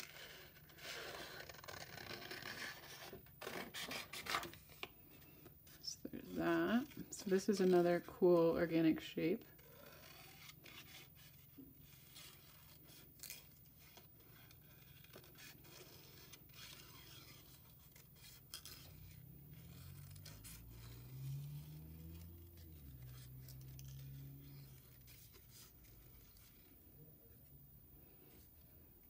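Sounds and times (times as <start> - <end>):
paper rustling: 0.0 - 27.4
faint low hum: 0.0 - 29.0.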